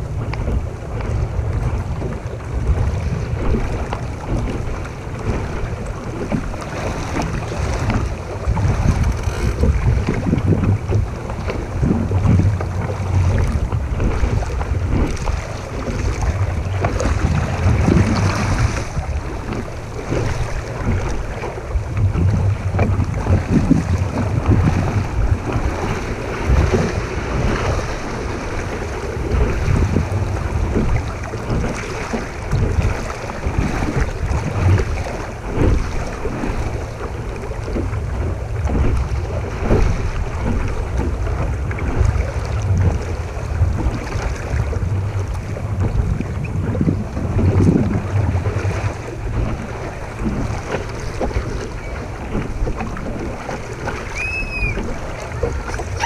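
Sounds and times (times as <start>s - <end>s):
water splashing: 0.0s - 56.0s
wind on microphone: 0.0s - 56.0s.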